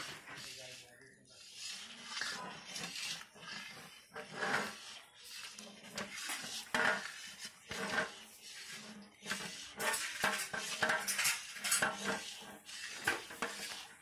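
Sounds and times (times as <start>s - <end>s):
metal spoon scraping a pan: 0.0s - 14.0s.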